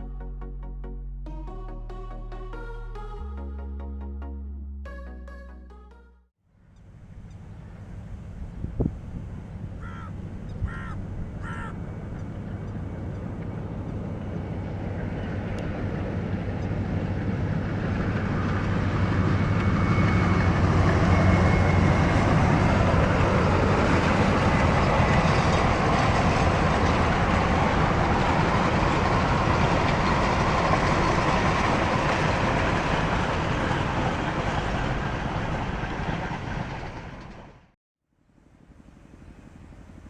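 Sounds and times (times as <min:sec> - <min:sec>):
locomotive engine hum: 0:00.0 - 0:40.0
train rolling rumble: 0:06.8 - 0:37.8, 0:38.4 - 0:40.0.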